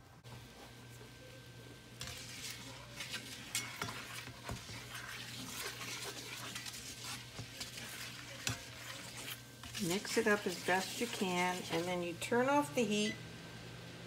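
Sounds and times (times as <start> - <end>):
honey bubbling and sizzling: 0.2 - 14.0
spatula stirring and scraping: 1.8 - 13.1.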